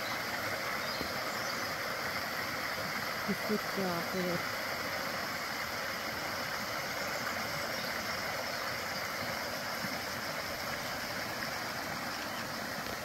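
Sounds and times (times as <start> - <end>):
stream rushing over cascades: 0.0 - 13.0.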